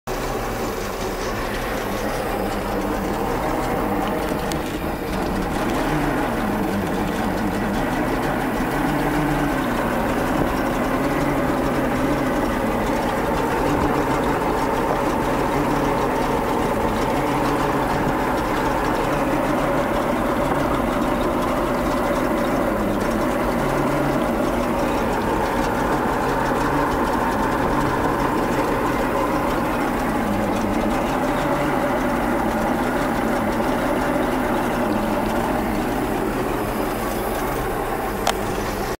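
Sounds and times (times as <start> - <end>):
boat engine idling: 0.0 - 38.9
water spraying: 0.2 - 38.9.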